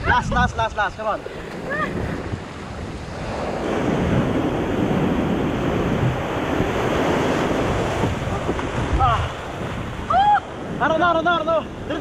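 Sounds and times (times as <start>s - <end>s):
ocean surf breaking: 0.0s - 12.0s
whitewater rushing and churning: 0.0s - 12.0s
wind buffeting microphone: 0.0s - 12.0s.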